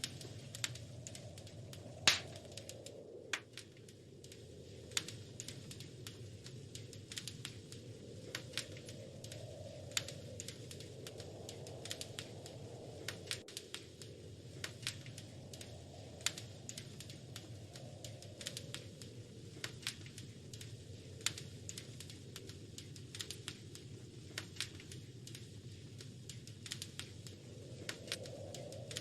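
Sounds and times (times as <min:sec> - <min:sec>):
fire crackling and popping: 0:00.0 - 0:29.0
low rush of flames: 0:00.0 - 0:29.0.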